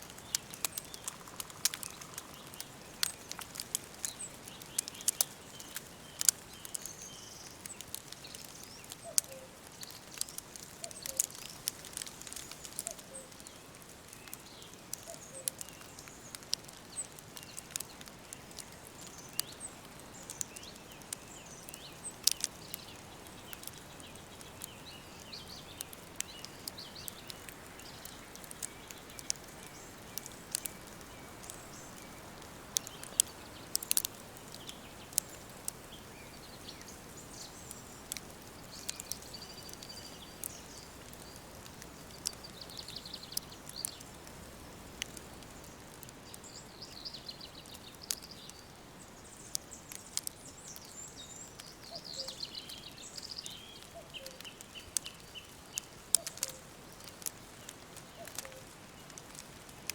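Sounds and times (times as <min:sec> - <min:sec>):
low steady hiss: 0:00.0 - 0:59.9
songbirds trilling: 0:00.0 - 0:59.9
wood fire crackling and popping: 0:00.0 - 0:59.9.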